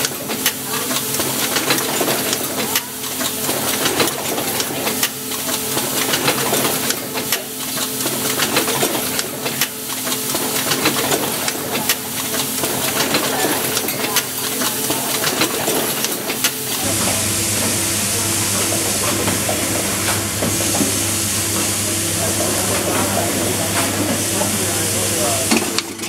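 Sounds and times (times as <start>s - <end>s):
pneumatic grippers clicking and clacking: 0.0s - 26.0s
steady machine hum: 0.0s - 26.0s.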